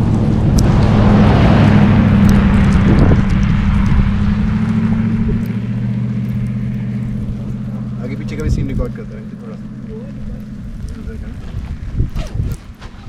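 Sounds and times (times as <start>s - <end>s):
car engine idling: 0.0s - 13.0s
wind rushing: 0.0s - 13.0s.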